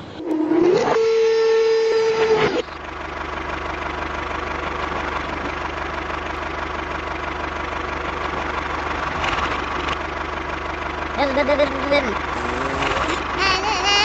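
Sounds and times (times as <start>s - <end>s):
tractor engine idling: 1.8s - 14.0s.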